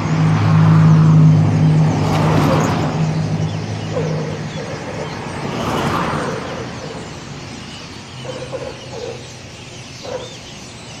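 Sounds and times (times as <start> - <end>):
vehicle passing: 0.0 - 10.5
traffic noise: 0.0 - 11.0
flock of birds chattering: 1.0 - 11.0.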